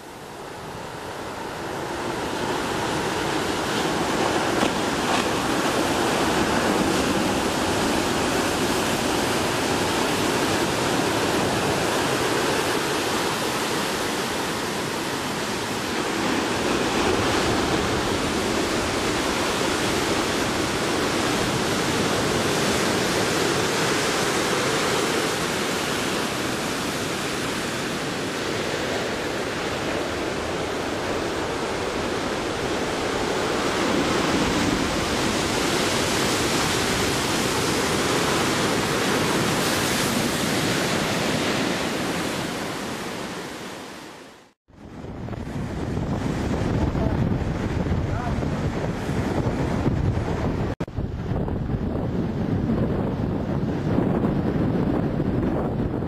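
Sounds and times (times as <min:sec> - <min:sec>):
heavy surf breaking: 0:00.0 - 0:56.0.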